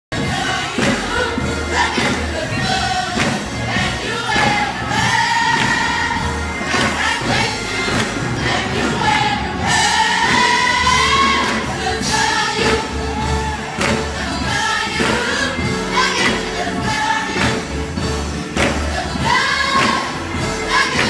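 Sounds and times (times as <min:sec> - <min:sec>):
youth choir singing: 0:00.1 - 0:21.0.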